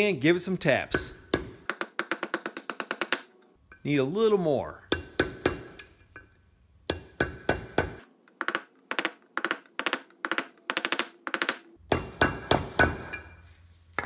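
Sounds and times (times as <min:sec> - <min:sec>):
hammer tapping metal: 0:00.9 - 0:03.9, 0:04.9 - 0:13.4.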